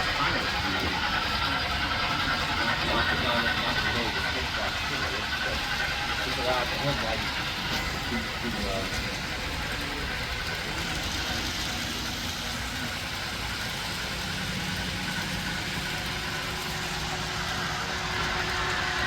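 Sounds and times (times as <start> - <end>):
faint engine-like drone: 0.0 - 19.0
model trains rumbling: 0.0 - 19.0.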